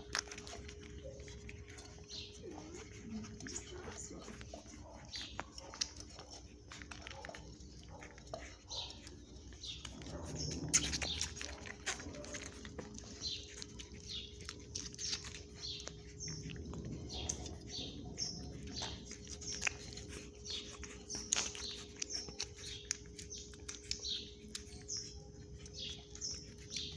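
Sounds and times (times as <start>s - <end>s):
puppies chirping: 0.0s - 26.9s
puppies suckling with wet clicks: 0.0s - 26.9s.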